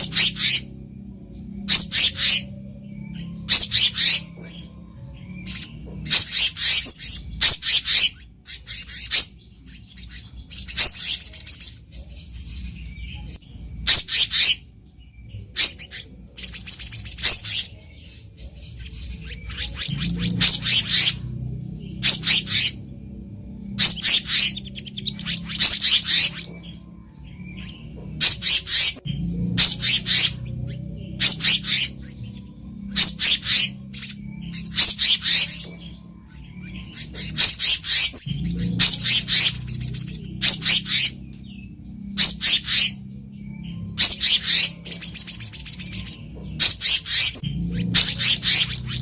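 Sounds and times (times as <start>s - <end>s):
faint low hum: 0.0s - 49.0s
bird calling in high notes: 1.6s - 14.8s, 15.5s - 49.0s.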